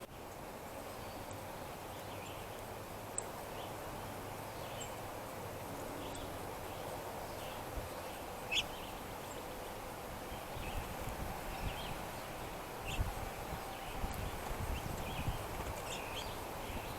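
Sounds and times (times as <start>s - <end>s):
steady background hiss: 0.0s - 16.9s.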